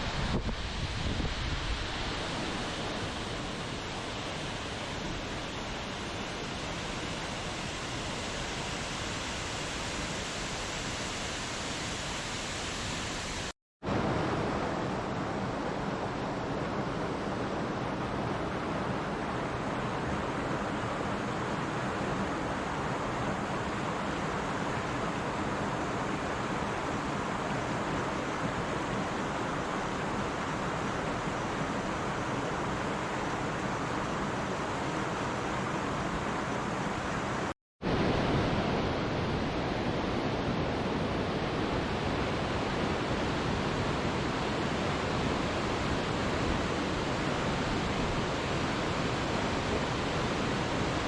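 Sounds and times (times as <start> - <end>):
steady rushing noise: 0.0 - 51.0.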